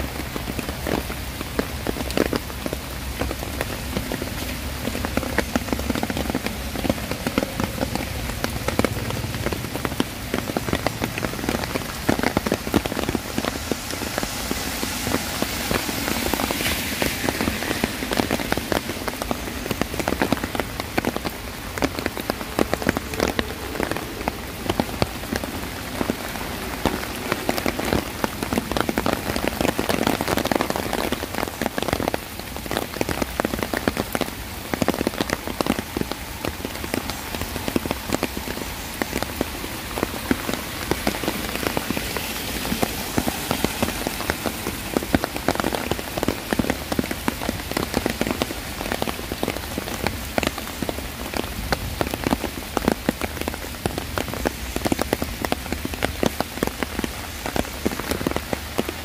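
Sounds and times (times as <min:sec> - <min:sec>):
raindrops splashing on surfaces: 0:00.0 - 0:59.0
steady rain falling: 0:00.0 - 0:59.0.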